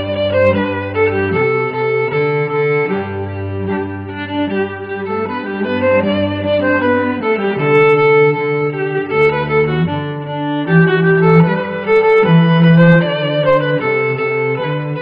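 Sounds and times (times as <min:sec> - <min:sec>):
violin melody over strings: 0:00.0 - 0:15.0.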